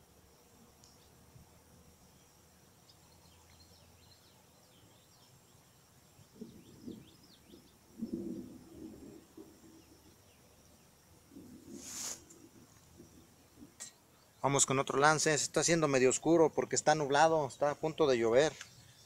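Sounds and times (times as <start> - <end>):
faint steady hiss: 0.0 - 19.0
small birds chirping: 0.4 - 19.0.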